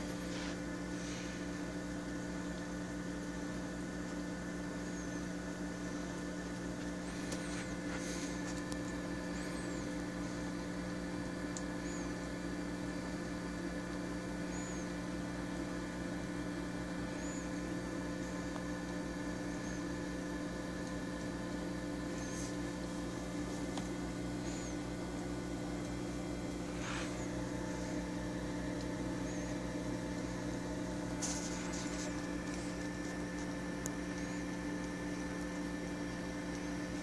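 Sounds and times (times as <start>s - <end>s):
aquarium pump humming: 0.0s - 37.0s.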